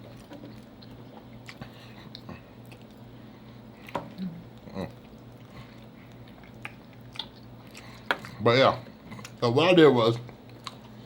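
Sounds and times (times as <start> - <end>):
person chewing food: 0.0 - 9.4, 10.3 - 11.0.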